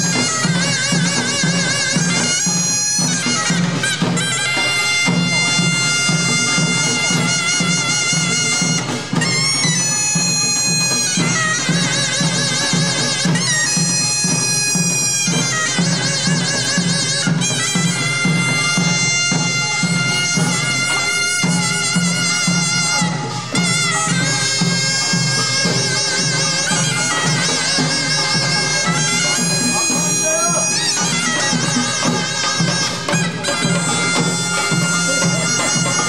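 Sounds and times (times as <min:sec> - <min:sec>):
shawm playing nasal melody: 0:00.0 - 0:36.0
steady drumbeat: 0:00.0 - 0:36.0.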